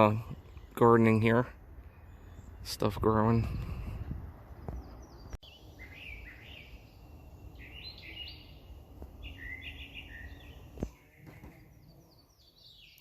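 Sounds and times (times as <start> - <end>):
songbird chirping: 0.0 - 3.5, 4.4 - 13.0.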